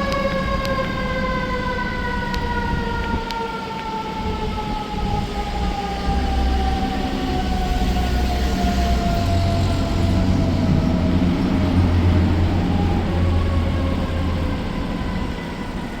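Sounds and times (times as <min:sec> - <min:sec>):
fire truck siren wailing: 0:00.0 - 0:16.0
truck engine rumble: 0:00.0 - 0:16.0.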